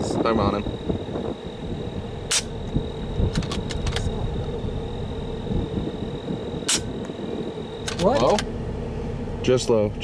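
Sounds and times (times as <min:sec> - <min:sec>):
low steady rumble: 0:00.0 - 0:10.0
thin high whine: 0:00.0 - 0:10.0.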